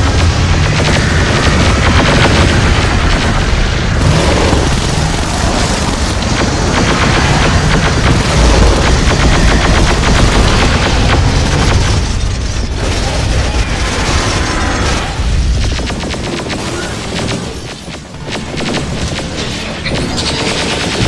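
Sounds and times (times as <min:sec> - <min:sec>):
automatic weapon fire: 0:00.0 - 0:21.0
low rumble of explosions: 0:00.0 - 0:21.0.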